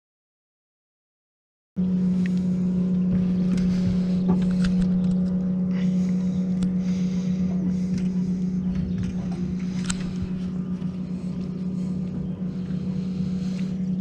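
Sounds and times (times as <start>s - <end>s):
boat motor humming: 1.8s - 14.0s
light clicks and knocks from boat: 1.8s - 14.0s.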